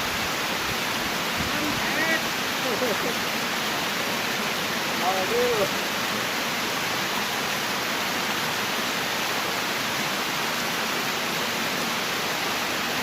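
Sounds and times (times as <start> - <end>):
river water pouring over dam: 0.0 - 13.0.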